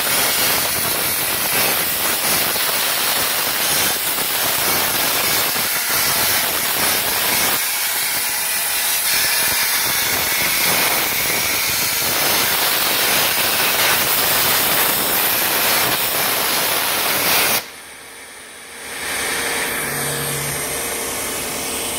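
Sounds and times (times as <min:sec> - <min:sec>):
plasma cutter arc hissing: 0:00.0 - 0:17.7.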